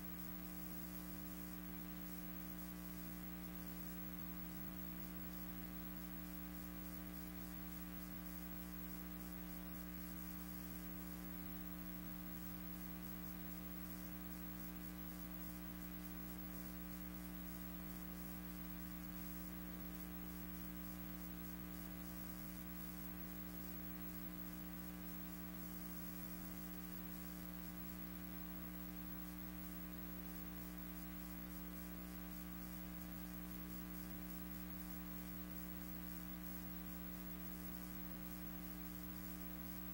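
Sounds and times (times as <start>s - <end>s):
electrical mains hum: 0.0s - 39.9s
faint hiss: 0.0s - 39.9s.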